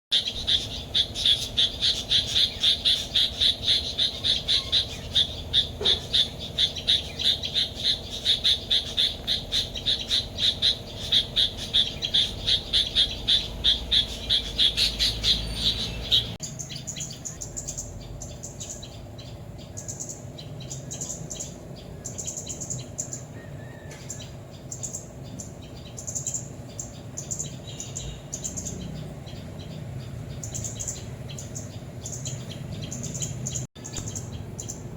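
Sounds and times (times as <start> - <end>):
songbird alarm calls: 0.1 - 34.9.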